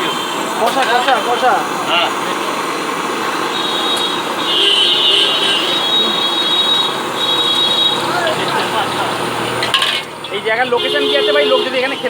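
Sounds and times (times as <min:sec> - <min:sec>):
background chatter: 0:00.0 - 0:12.0
traffic: 0:00.0 - 0:12.0.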